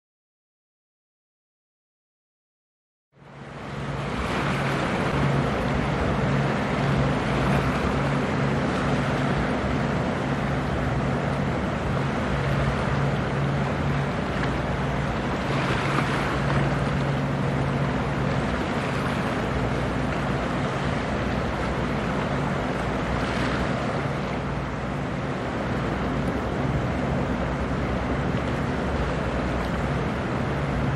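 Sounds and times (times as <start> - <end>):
boat engine hum: 3.1 - 30.9
water wash: 3.2 - 30.9.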